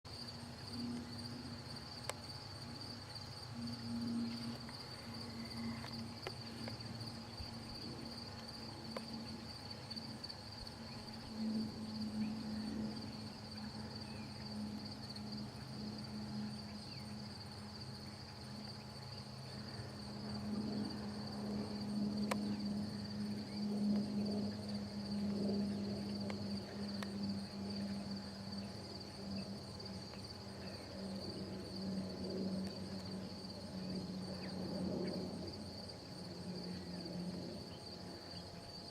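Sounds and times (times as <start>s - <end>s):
constant low hum: 0.1s - 38.9s
insects trilling: 0.1s - 38.9s.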